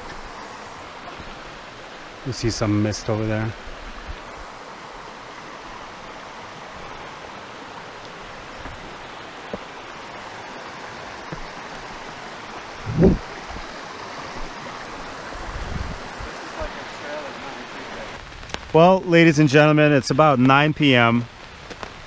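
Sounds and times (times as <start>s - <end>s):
creek water running: 0.0s - 22.0s
falling rain: 0.0s - 22.0s.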